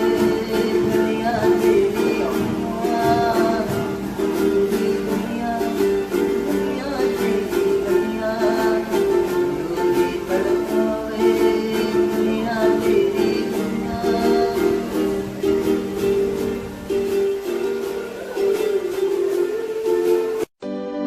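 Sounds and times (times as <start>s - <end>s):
gliding melody line: 0.0s - 21.0s
plucked notes: 0.0s - 21.0s.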